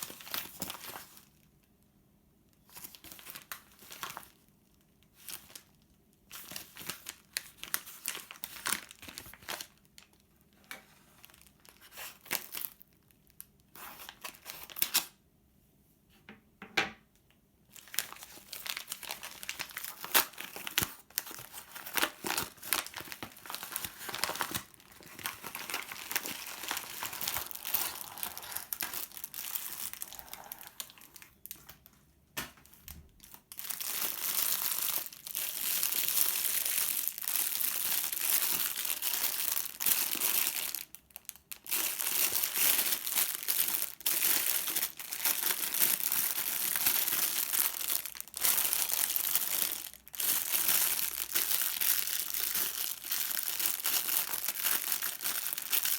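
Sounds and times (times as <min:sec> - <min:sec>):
packaging crinkling and rustling: 0:00.0 - 0:01.5, 0:02.6 - 0:15.2, 0:17.7 - 0:55.9.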